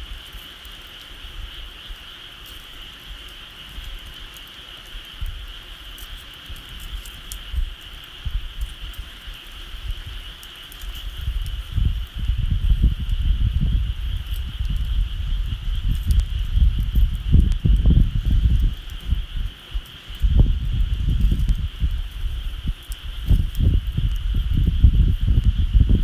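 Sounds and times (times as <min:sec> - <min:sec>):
bonfire crackling: 0:00.0 - 0:26.0
high-pitched insect chorus: 0:00.0 - 0:26.0.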